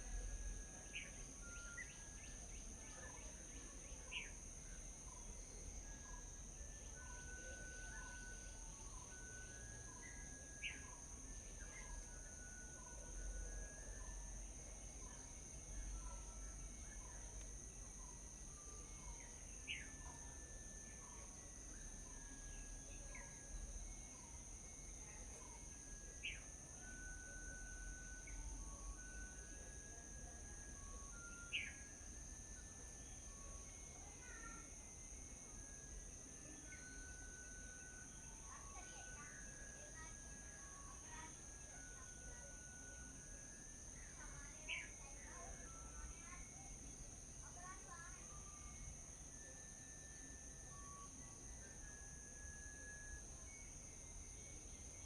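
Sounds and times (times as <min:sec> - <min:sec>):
high-pitched insect drone: 0:00.0 - 0:55.0
small birds chirping: 0:00.1 - 0:06.3, 0:06.9 - 0:50.2.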